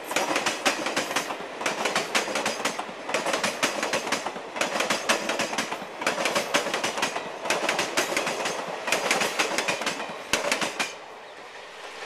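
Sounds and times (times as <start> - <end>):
train wheels clattering over rail joints: 0.0 - 11.0
train running rumble: 0.0 - 12.0.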